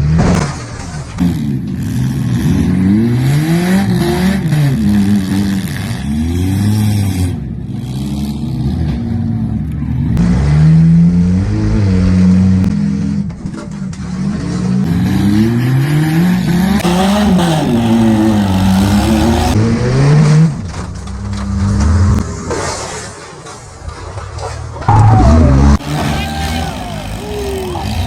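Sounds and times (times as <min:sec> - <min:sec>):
car engines revving hard: 0:00.0 - 0:28.0.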